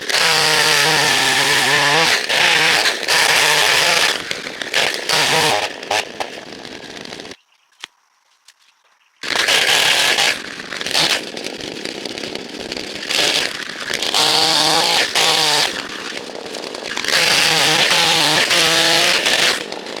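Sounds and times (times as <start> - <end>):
chainsaw revving: 0.0 - 7.4, 9.2 - 20.0.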